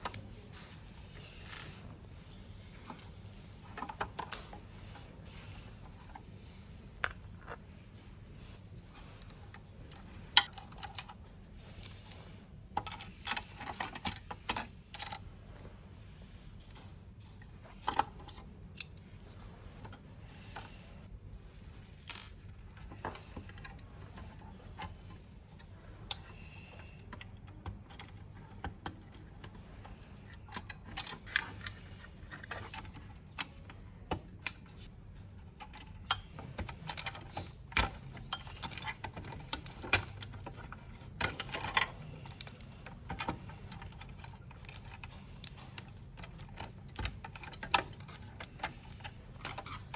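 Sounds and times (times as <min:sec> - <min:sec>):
small clicks and taps of parts: 0:00.0 - 0:01.8, 0:02.6 - 0:15.3, 0:21.8 - 0:49.9.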